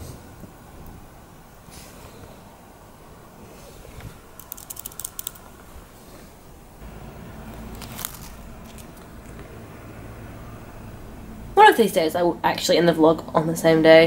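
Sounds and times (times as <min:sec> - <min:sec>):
low hum: 0:00.0 - 0:13.4.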